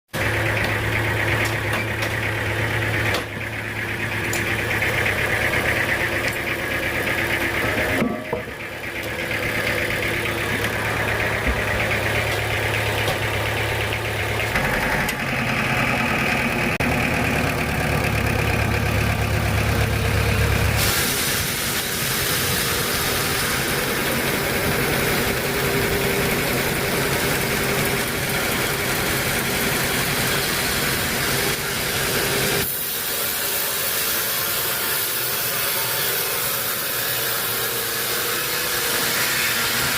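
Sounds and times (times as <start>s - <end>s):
sawmill machinery humming: 0.2s - 39.9s.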